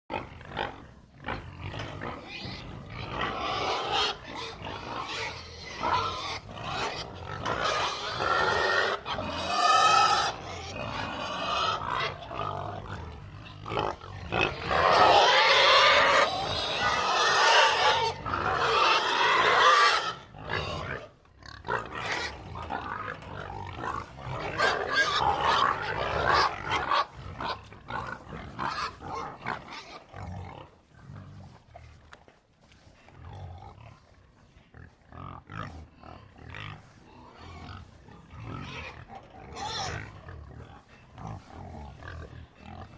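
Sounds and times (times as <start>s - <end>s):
pigs squealing: 0.1s - 30.7s, 34.8s - 42.9s
pigs grunting: 0.1s - 42.9s.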